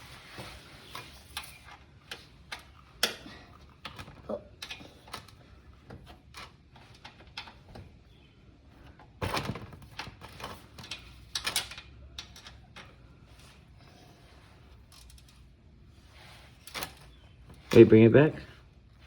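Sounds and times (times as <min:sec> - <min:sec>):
scraping rustles: 0:00.0 - 0:02.9, 0:04.8 - 0:19.0.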